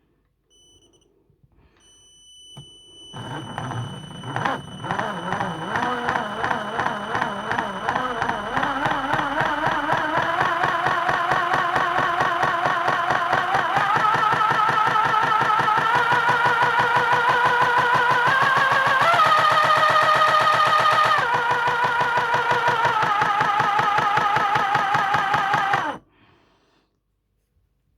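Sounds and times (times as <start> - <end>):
toy car motor and gears whining: 3.1 - 26.0.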